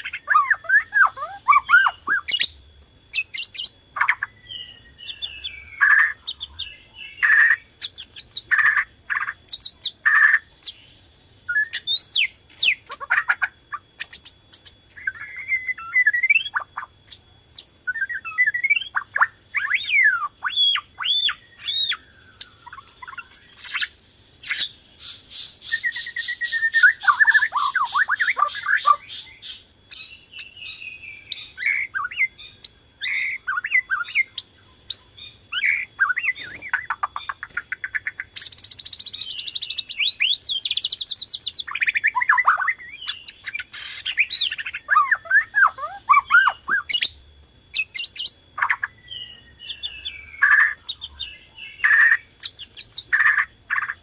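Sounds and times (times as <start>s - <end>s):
fast rattling bird trill: 0.0s - 10.9s, 11.5s - 54.0s
songbird whistling and chirping: 0.0s - 54.0s.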